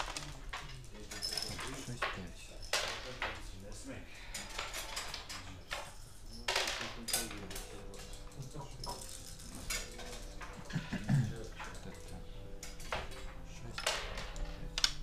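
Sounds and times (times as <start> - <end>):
hard objects clacking: 0.0 - 15.0.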